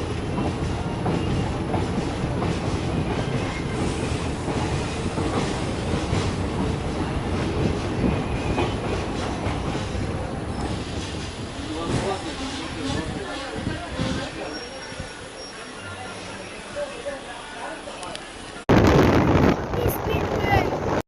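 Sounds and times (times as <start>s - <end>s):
train rumbling: 0.0s - 17.3s, 18.0s - 21.0s.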